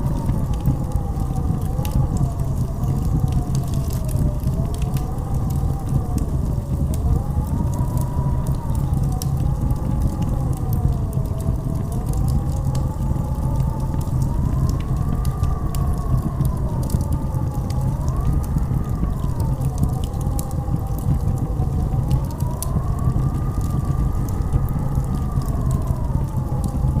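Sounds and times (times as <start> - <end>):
blizzard wind howling: 0.0 - 27.0
faint crackles: 0.0 - 27.0.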